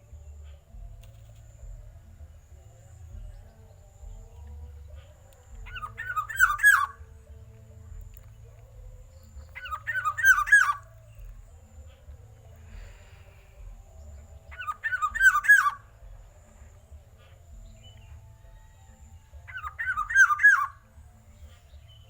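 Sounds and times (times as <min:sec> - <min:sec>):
low steady hum: 0:00.0 - 0:22.0
oriole fluty whistled song: 0:00.0 - 0:22.0.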